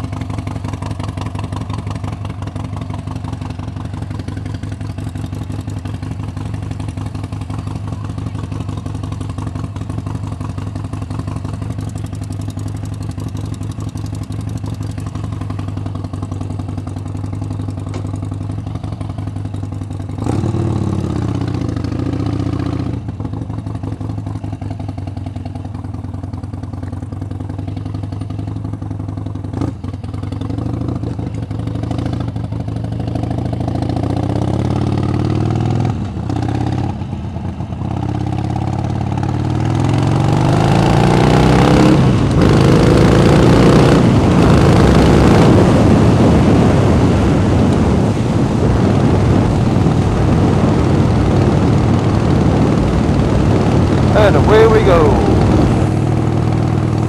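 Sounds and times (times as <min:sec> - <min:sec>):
motorcycle engine idling: 0:00.0 - 0:40.1, 0:51.2 - 0:57.0.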